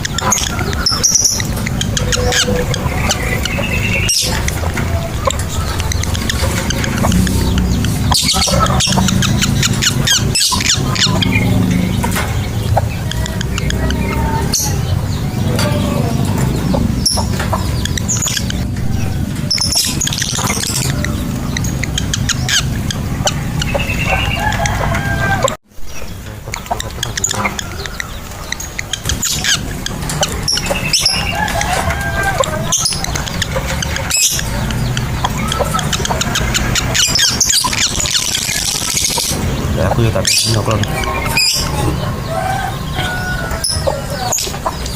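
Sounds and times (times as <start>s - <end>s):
lovebirds chattering: 0.0s - 44.9s.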